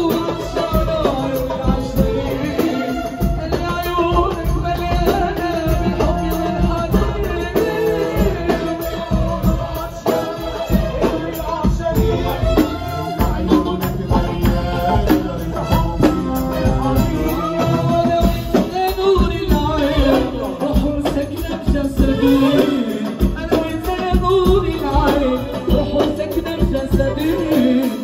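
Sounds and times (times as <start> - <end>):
darbuka drumming: 0.0 - 28.0
drum kit: 0.0 - 28.0
man singing into a microphone: 0.0 - 28.0
violin: 0.0 - 28.0.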